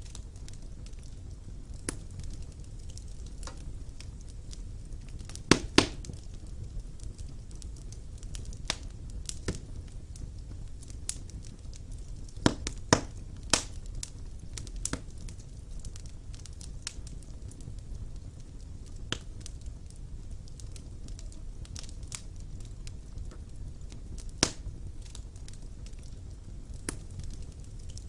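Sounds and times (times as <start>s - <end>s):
sharp fire pops: 0.0s - 28.0s
wood fire crackling: 0.0s - 28.0s.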